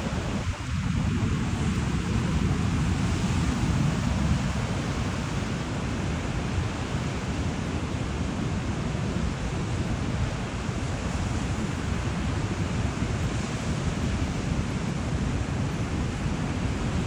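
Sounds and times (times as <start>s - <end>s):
ocean surf washing: 0.0s - 17.0s
wind buffeting microphone: 0.0s - 17.0s.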